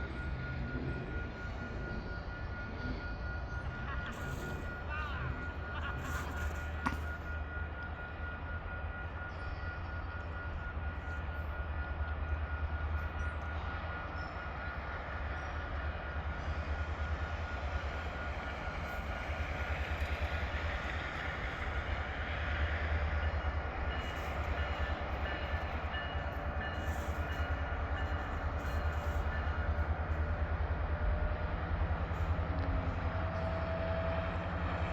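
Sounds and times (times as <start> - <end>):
diesel locomotive engine rumble: 0.0 - 34.9
train rail noise: 0.0 - 34.9.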